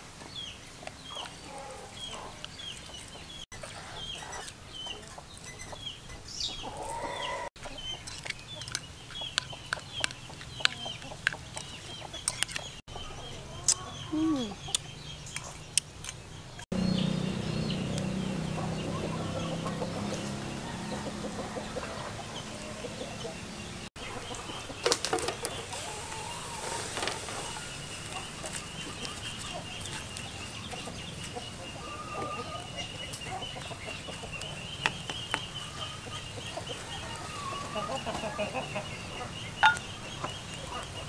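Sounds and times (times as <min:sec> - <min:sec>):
chickens clucking: 0:00.2 - 0:41.0.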